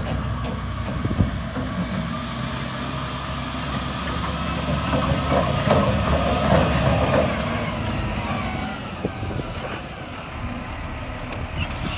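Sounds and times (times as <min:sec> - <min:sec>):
diesel truck engine passing: 0:00.0 - 0:11.9.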